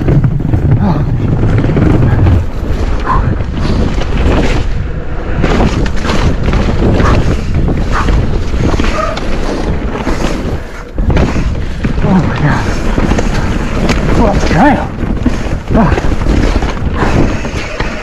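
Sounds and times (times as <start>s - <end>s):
bike knocks and rattles: 0.0s - 18.0s
tyres rolling over wet dirt: 0.0s - 18.0s
wind over microphone: 0.0s - 18.0s.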